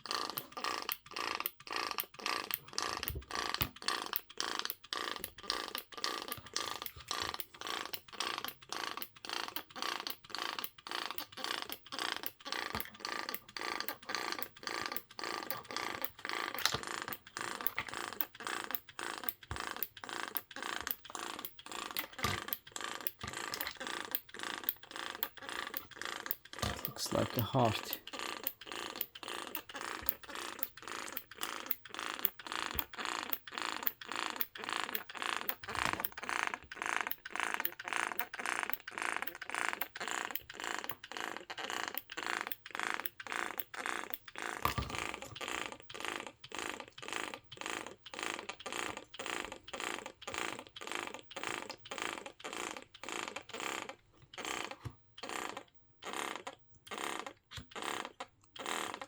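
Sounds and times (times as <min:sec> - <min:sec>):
breast pump pulsing: 0:00.0 - 0:59.0.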